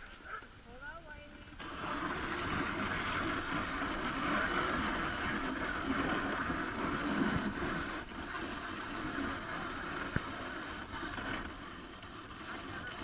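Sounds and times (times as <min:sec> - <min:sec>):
sled runners hissing on snow: 0:01.5 - 0:13.0.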